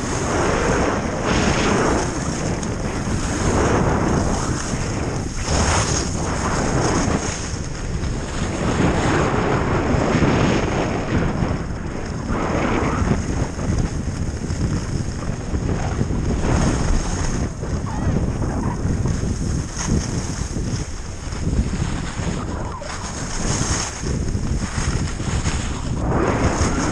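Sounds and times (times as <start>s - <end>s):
skis scraping over snow: 0.0s - 26.9s
wind buffeting microphone: 0.0s - 26.9s.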